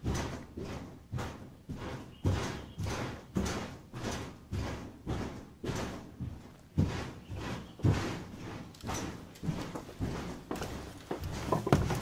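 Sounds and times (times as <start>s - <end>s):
footsteps on wooden floor: 0.0s - 12.0s.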